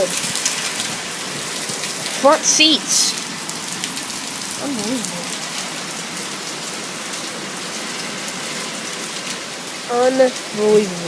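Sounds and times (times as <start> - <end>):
heavy rain hissing on surfaces: 0.0 - 11.0.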